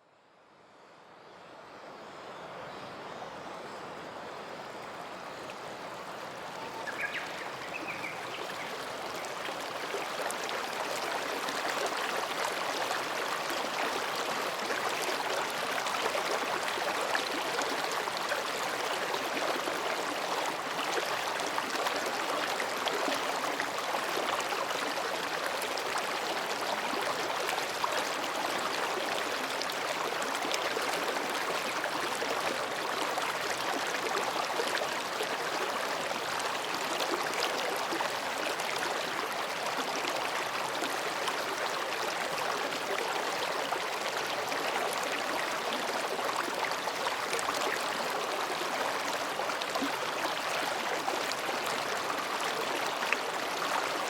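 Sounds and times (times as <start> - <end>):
stream babbling over rocks: 5.2 - 54.0.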